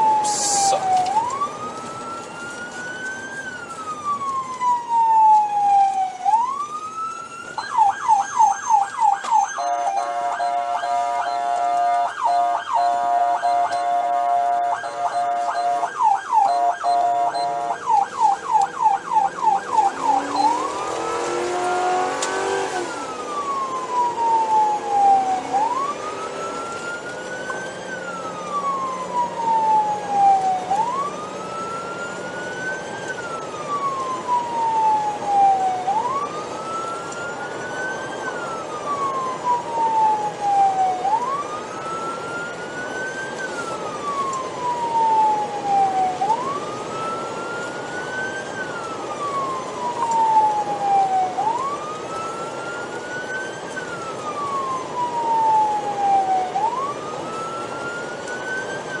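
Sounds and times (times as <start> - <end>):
electronic siren yelp and wail: 0.0 - 59.0.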